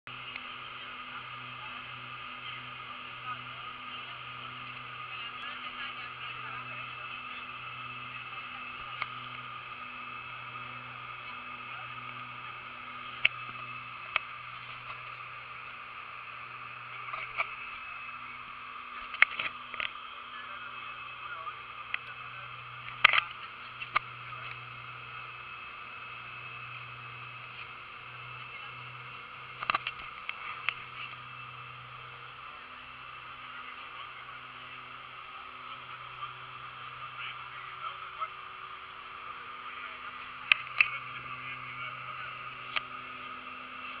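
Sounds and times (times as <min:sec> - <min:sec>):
propeller plane engine drone: 0:00.1 - 0:44.0.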